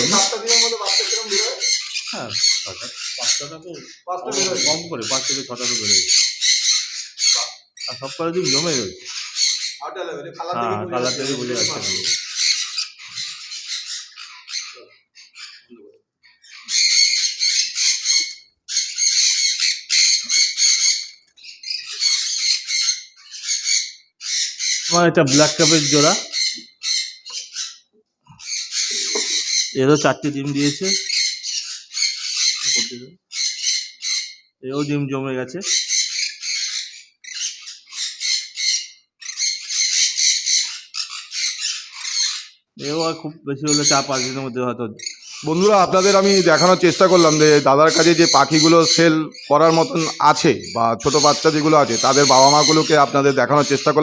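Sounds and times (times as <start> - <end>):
parrots screeching: 0.0 - 54.0.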